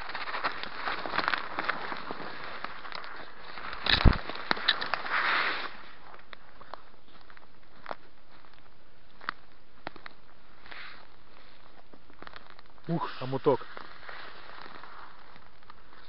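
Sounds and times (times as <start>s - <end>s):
branches rustling: 0.0s - 16.0s
footsteps crunching on dry leaves: 0.0s - 16.0s.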